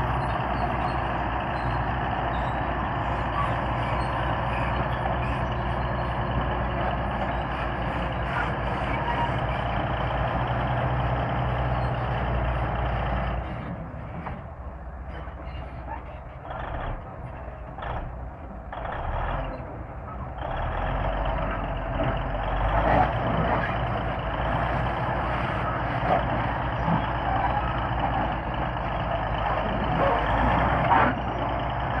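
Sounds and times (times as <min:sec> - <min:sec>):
bulldozer diesel engine under load: 0:00.0 - 0:32.0.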